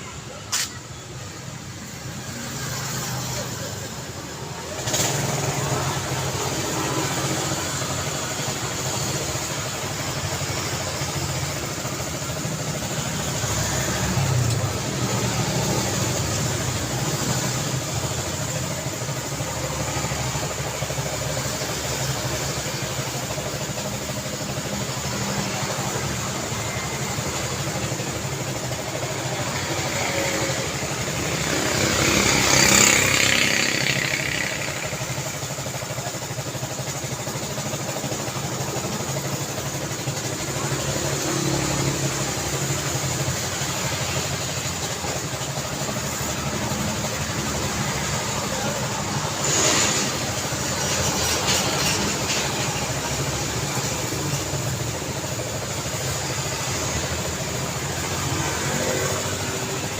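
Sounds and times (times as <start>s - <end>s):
road traffic passing cars: 0.0s - 59.9s.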